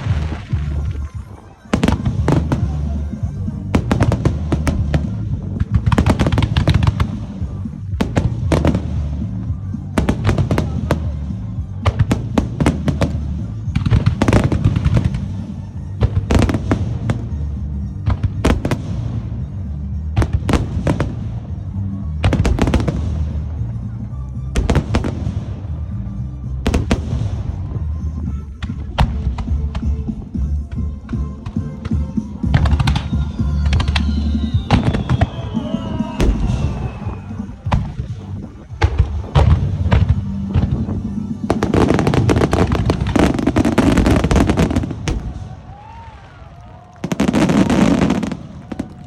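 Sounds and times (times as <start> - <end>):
loud music from loudspeakers: 0.0 - 45.8, 47.0 - 48.8
fireworks bursting and crackling: 0.0 - 49.0.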